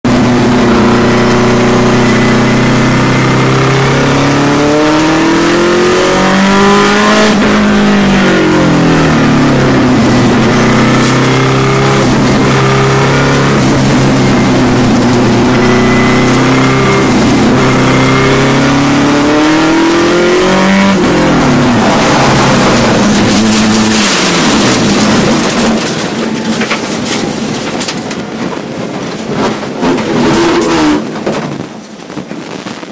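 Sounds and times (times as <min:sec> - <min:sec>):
racing car engine revving: 0:00.1 - 0:26.2, 0:29.3 - 0:31.2.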